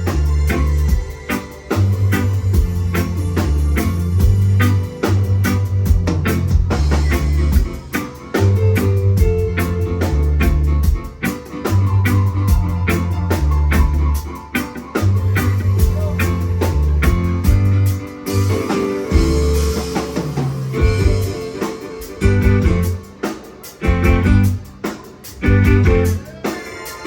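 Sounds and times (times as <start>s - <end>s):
heavy bass line: 0.0s - 14.4s, 15.0s - 21.6s, 22.2s - 23.0s, 23.8s - 24.8s, 25.4s - 26.2s
reggae band playing: 0.0s - 27.0s.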